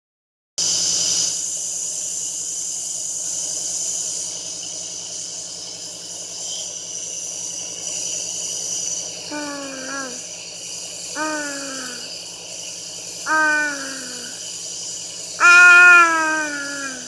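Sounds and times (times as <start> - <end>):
small motor running: 3.3 - 17.0.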